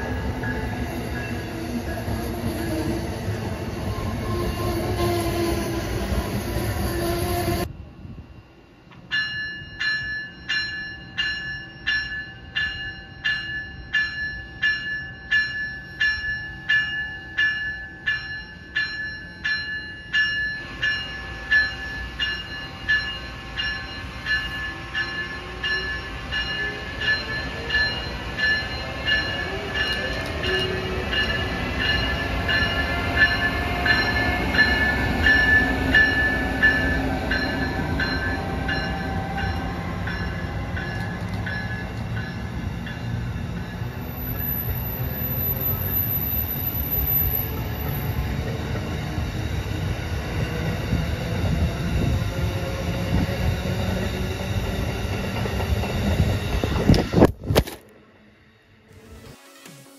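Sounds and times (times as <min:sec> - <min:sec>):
locomotive bell ringing: 0:00.0 - 0:05.2, 0:08.4 - 0:56.5
train rumble and wheels on rail: 0:00.0 - 0:59.8.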